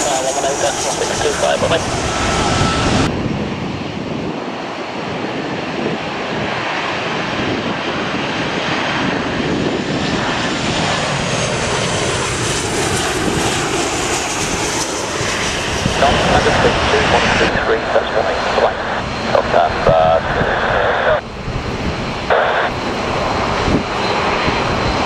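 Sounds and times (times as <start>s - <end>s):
high jet engine whine: 0.0s - 25.0s
jet engines roaring: 0.0s - 25.0s
wind buffeting microphone: 0.4s - 25.0s.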